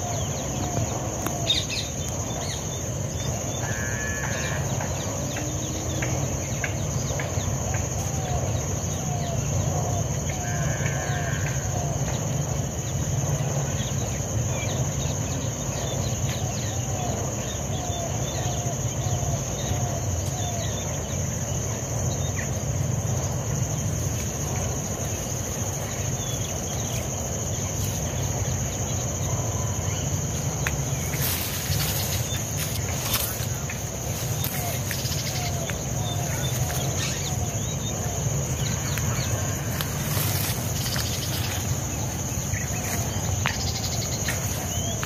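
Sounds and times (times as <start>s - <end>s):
insects trilling: 0.0s - 45.0s.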